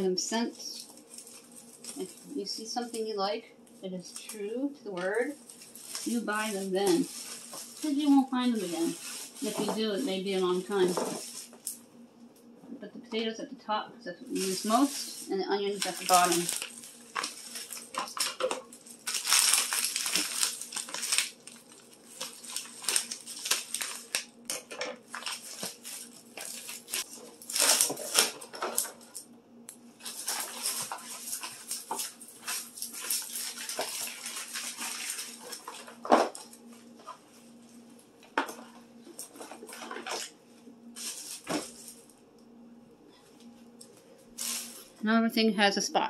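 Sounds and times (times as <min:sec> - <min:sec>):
produce bags crinkling: 0:00.4 - 0:11.7, 0:14.3 - 0:29.2, 0:30.0 - 0:37.8, 0:38.4 - 0:40.4, 0:41.0 - 0:42.1, 0:44.4 - 0:45.0.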